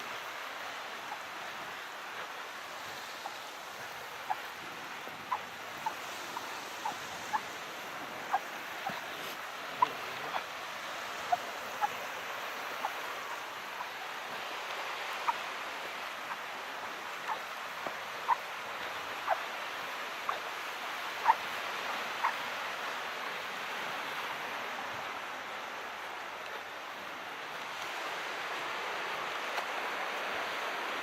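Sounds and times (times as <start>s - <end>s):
calm sea washing: 0.0s - 31.0s.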